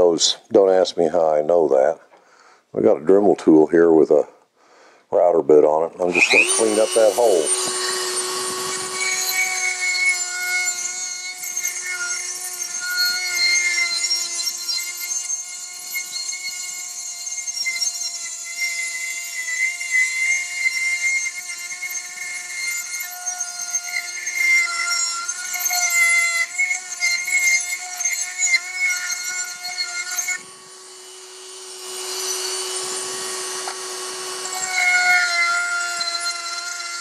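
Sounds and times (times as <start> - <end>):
rotary tool whining: 5.7 - 37.0.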